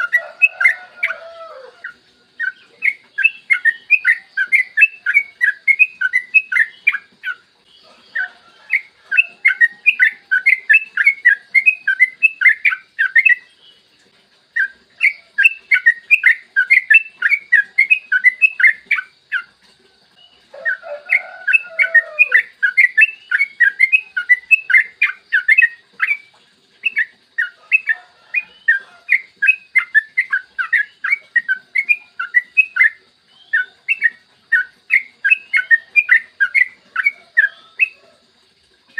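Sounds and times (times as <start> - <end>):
bird singing bubbly whistled notes: 0.0 - 13.9, 14.5 - 19.6, 20.2 - 38.3.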